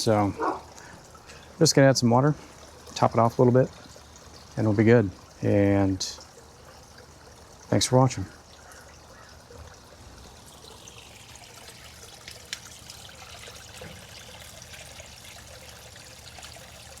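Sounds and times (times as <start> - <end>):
water trickling into aquarium: 0.0 - 17.0.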